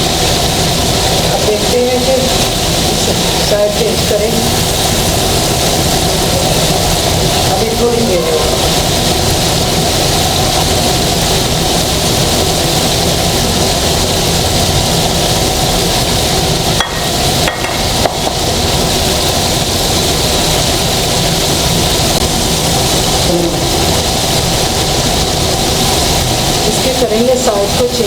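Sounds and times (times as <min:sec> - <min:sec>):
chicken frying in oil: 0:00.0 - 0:28.0.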